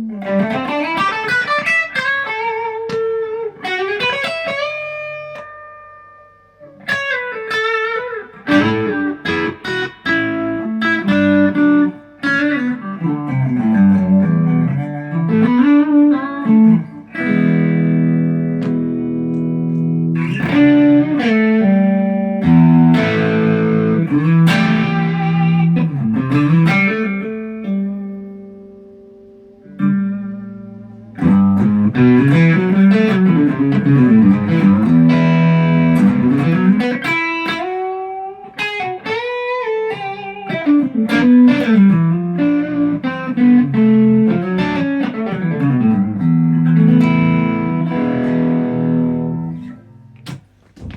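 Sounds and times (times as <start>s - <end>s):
electric guitar notes and chords: 0.0s - 50.9s.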